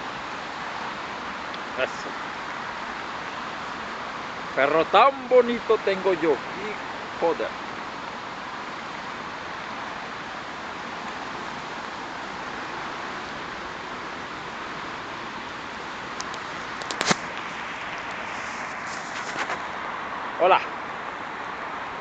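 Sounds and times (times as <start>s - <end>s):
drizzle hissing: 0.0s - 20.2s.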